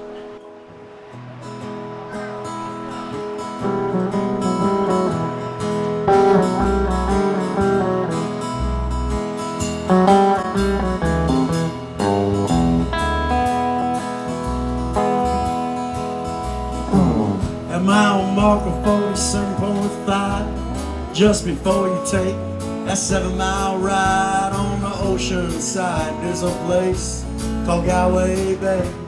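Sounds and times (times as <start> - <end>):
strummed and picked guitar: 0.0 - 29.0
bass guitar: 3.4 - 29.0.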